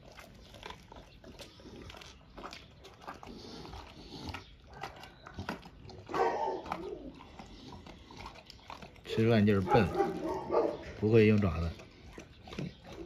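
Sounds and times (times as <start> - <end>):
dog chewing and crunching meat: 0.0 - 13.0.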